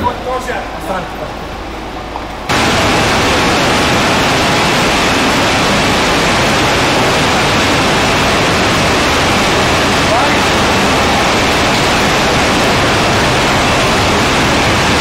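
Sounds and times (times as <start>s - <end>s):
static-like hiss: 0.0s - 15.0s.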